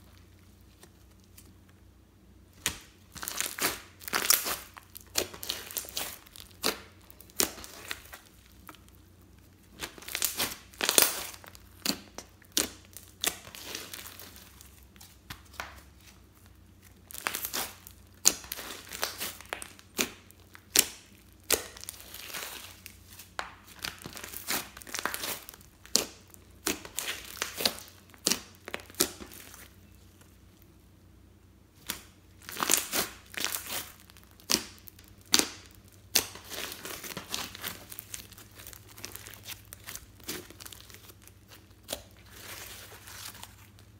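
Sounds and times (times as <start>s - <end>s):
slime crackling and popping: 2.5s - 30.7s, 31.8s - 43.9s
sticky slime tearing: 2.6s - 9.0s, 9.6s - 29.8s, 31.8s - 43.8s.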